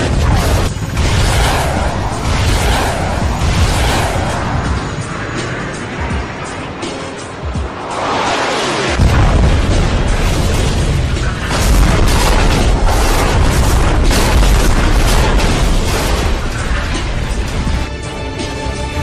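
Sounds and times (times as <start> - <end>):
explosion booms: 0.0 - 6.5, 8.6 - 17.3
dramatic music: 0.0 - 19.0.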